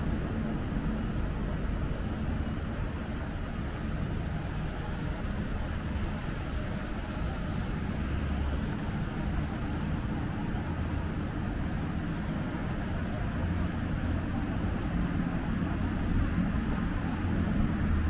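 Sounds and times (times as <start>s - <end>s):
city street traffic rumble: 0.0s - 18.0s.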